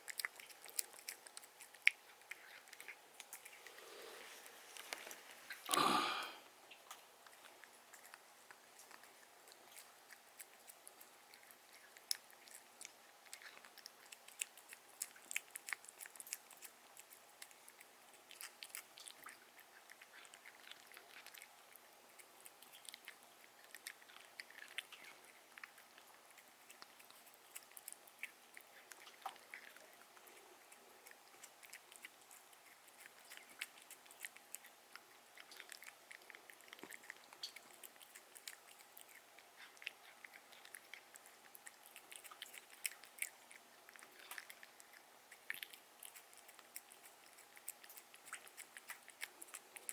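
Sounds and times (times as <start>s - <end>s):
cat chewing food: 0.0s - 49.9s.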